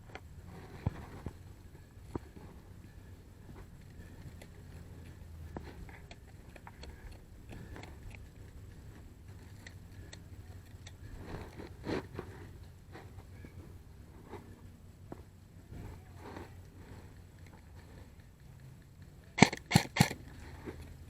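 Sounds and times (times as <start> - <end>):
faint clicks and rustles: 0.0 - 21.0
low steady hum: 0.0 - 21.0.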